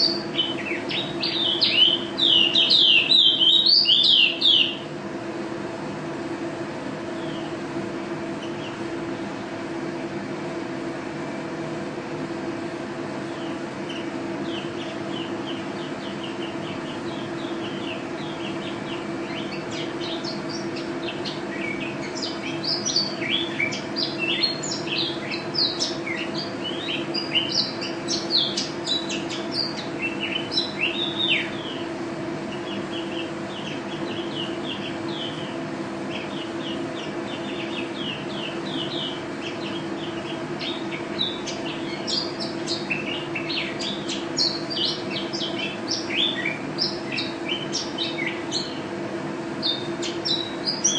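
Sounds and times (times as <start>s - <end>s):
bird chirping and trilling: 0.0s - 4.9s, 7.1s - 7.6s, 8.2s - 8.9s, 13.2s - 49.0s, 49.6s - 50.9s
steady low hum: 0.0s - 50.9s.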